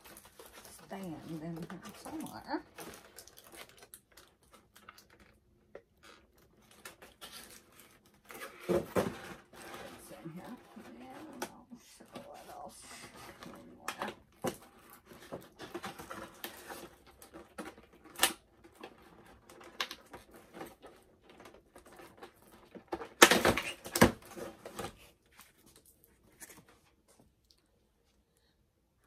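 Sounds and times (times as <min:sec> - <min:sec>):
plastic packaging rustling: 0:00.0 - 0:27.4.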